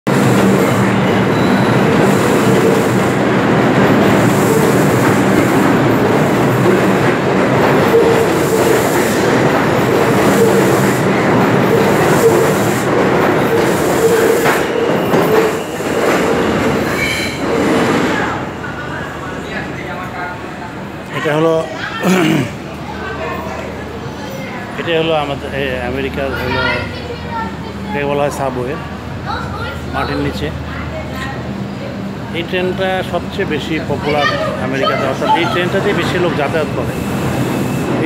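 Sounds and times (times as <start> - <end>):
subway wheels on rails: 0.1 - 38.0.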